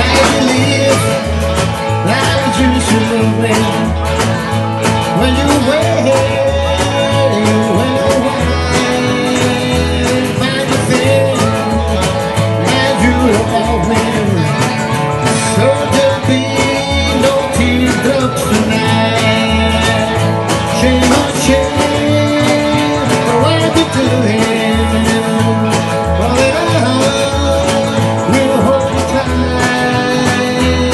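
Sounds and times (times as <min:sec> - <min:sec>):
bending lead guitar notes: 0:00.0 - 0:30.9
country band playing: 0:00.0 - 0:30.9
harmonica: 0:00.0 - 0:30.9.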